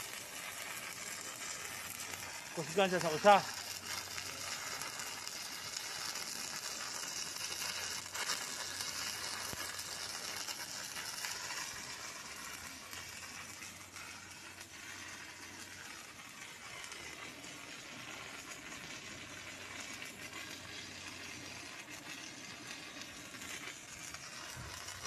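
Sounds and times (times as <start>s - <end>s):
welding arc crackling: 0.0s - 25.0s.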